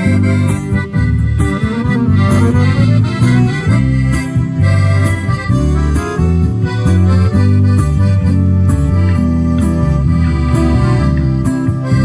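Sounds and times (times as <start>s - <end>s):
accordion melody: 0.0s - 12.0s
acoustic guitar: 0.0s - 12.0s
electric bass: 0.0s - 12.0s.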